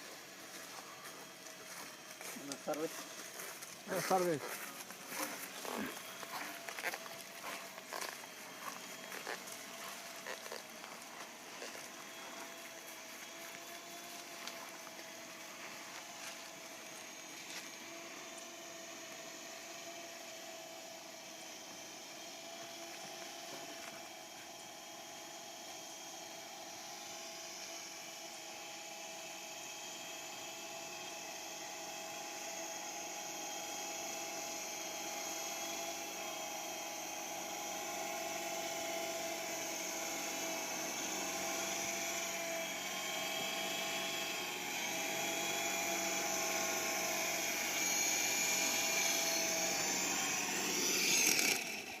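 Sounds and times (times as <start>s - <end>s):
toy helicopter motor and rotor whine: 0.0s - 52.0s.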